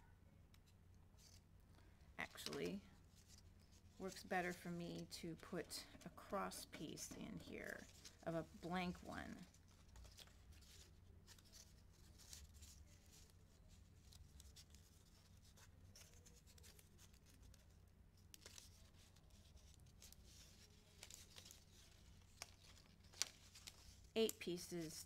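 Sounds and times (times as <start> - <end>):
paper rustling: 2.2 - 25.0.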